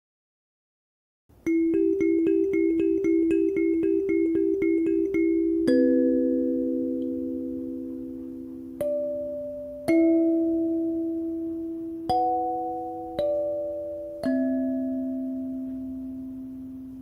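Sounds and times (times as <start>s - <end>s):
soft bell-like struck notes: 1.4s - 17.0s.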